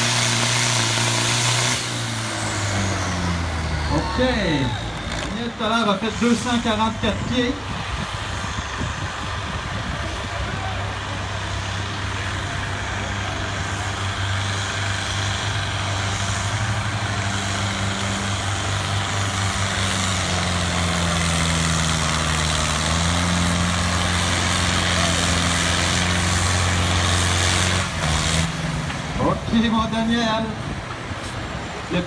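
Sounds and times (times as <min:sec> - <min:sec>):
tractor engine running at full load: 0:00.0 - 0:32.0.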